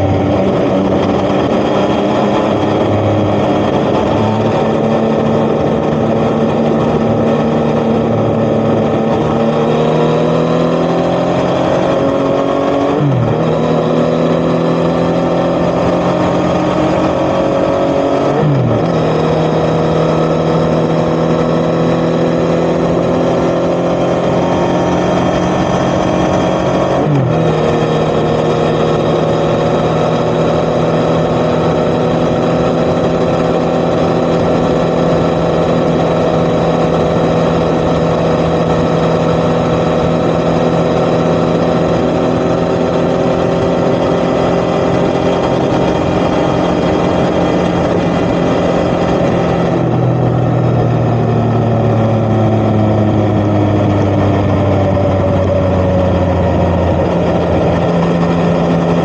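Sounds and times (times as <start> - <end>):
engine dropping at upshifts: 0.0 - 59.0
motorcycle engine accelerating: 0.0 - 59.0.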